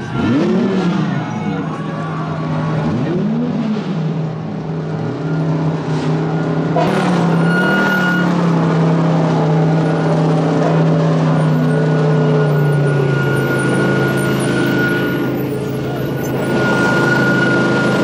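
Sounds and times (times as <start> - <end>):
race car engine at low revs: 0.0 - 18.0.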